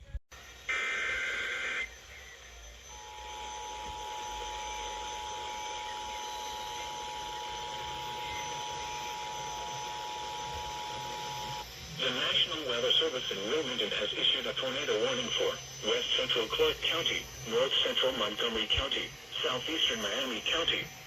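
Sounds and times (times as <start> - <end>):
radio hiss: 0.4 - 21.0
warbling digital data screech: 0.7 - 21.0.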